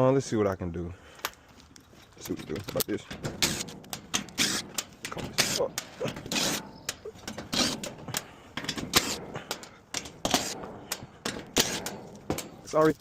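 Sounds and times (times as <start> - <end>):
tools handling sheet metal: 1.9 - 13.0.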